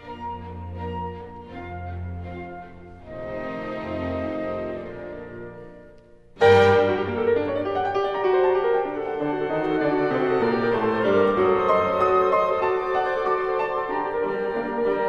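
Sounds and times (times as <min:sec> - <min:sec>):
classical music: 0:00.0 - 0:15.0
piano piece: 0:00.0 - 0:15.0.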